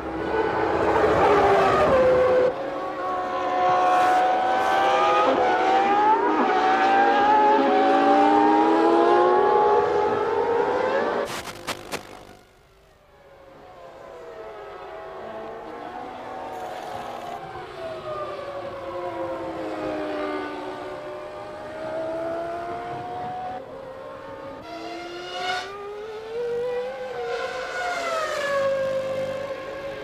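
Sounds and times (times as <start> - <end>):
racing car engines at high revs: 0.0 - 12.3, 14.6 - 30.0.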